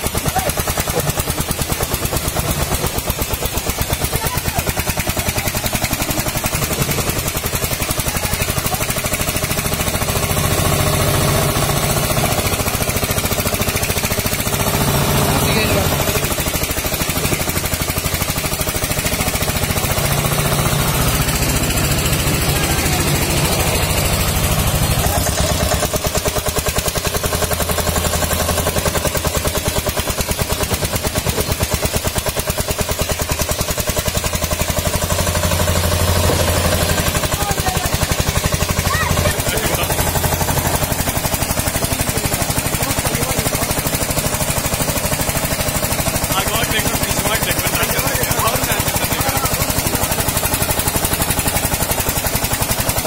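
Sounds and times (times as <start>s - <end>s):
tractor diesel engine chugging: 0.0s - 53.0s.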